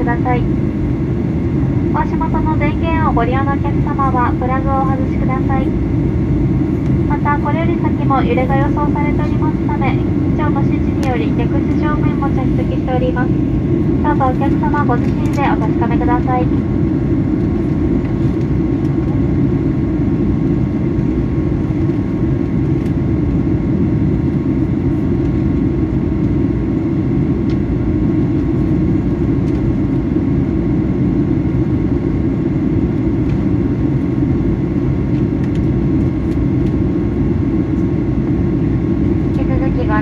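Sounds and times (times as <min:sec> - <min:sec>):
airliner cabin airflow and engine drone: 0:00.0 - 0:40.0
faint steady hum: 0:00.0 - 0:40.0.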